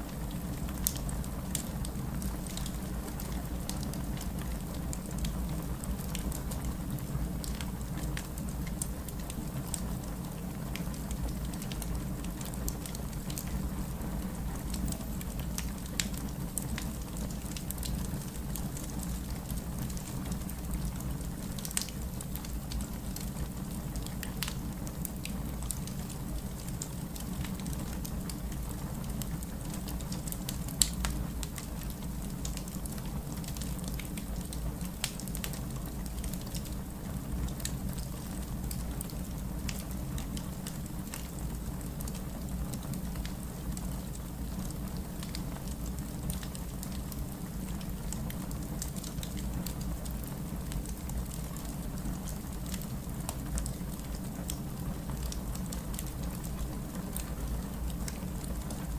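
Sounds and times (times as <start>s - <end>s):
fire crackling and popping: 0.0s - 58.9s
wood fire rumbling: 0.1s - 58.9s.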